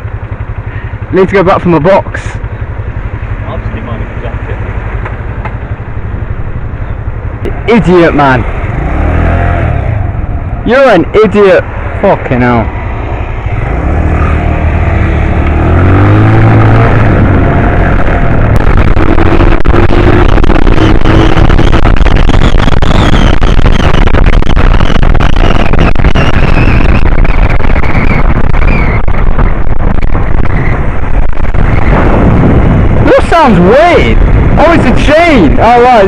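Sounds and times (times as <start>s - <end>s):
motorbike engine: 0.0s - 36.0s
wind rushing over microphone: 5.3s - 36.0s.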